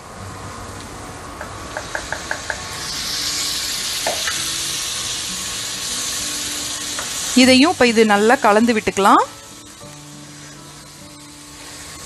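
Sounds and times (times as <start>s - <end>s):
food sizzling in skillet: 1.5s - 12.0s.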